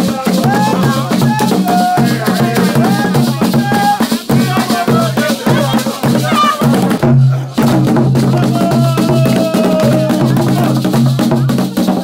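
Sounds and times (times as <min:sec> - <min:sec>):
music with drums and shakers: 0:00.0 - 0:12.0.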